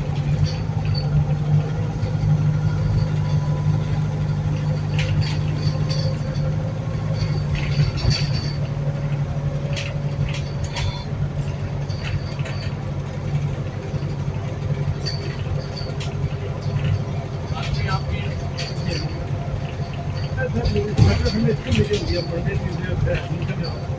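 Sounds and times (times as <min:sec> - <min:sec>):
bus drivetrain drone: 0:00.0 - 0:23.9
clicks and rattles: 0:00.0 - 0:23.9.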